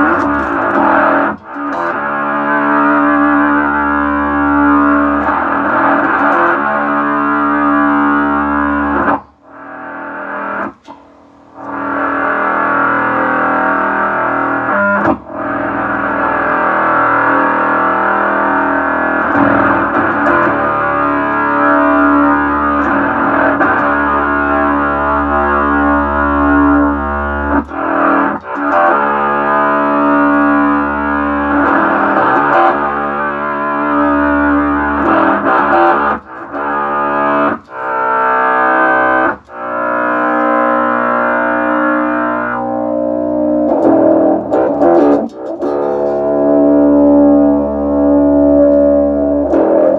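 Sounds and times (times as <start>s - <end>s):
synthesizer-like bass notes: 0.0s - 10.6s, 11.6s - 49.9s.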